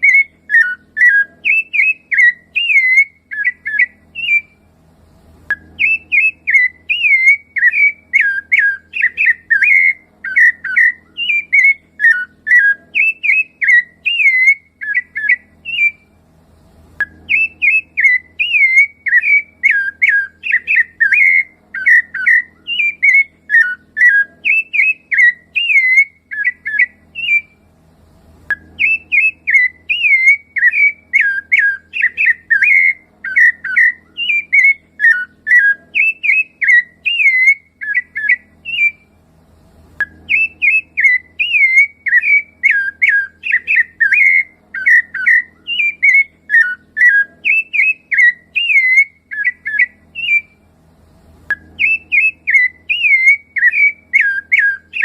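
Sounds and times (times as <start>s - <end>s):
thrush singing fluty whistles: 0.0s - 4.7s, 5.5s - 16.2s, 17.0s - 27.7s, 28.5s - 39.2s, 40.0s - 50.7s, 51.5s - 55.0s.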